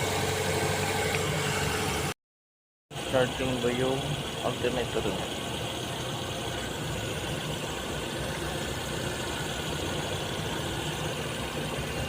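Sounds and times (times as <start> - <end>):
vehicle engine idling: 0.0 - 2.2, 2.9 - 12.0.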